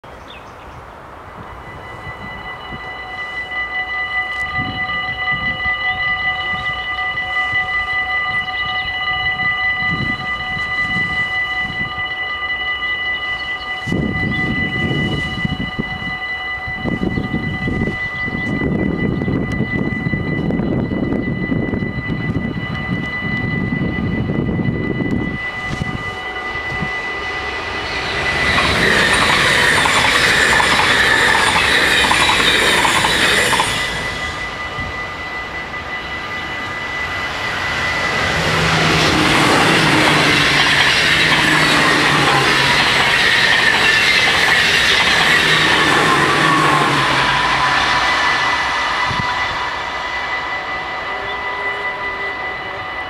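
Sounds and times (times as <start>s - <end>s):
crossing warning bells: 0.0s - 53.0s
trains passing on rails: 0.0s - 53.0s.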